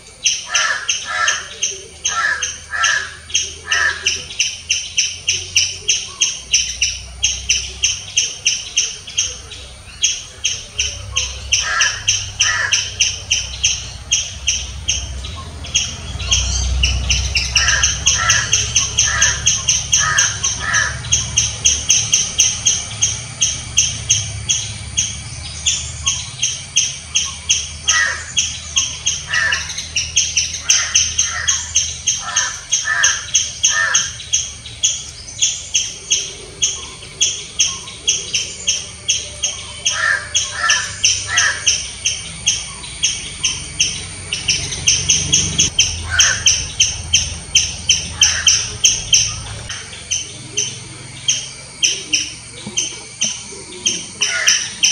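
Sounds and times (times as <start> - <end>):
lower-pitched chirps: 0.0 - 54.9
squirrel chirping alarm call: 0.0 - 54.9.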